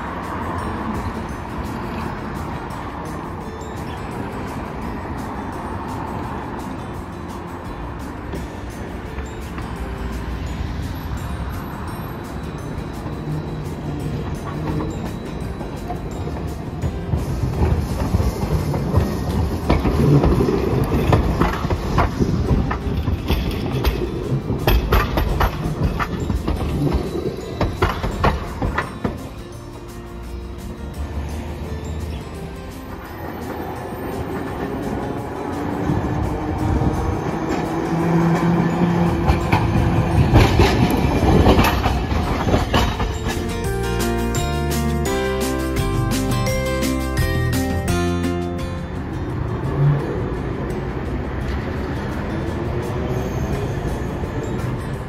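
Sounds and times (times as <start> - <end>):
tram running gear rumble: 0.0 - 55.0
wheels clicking over rail crossings: 0.0 - 55.0.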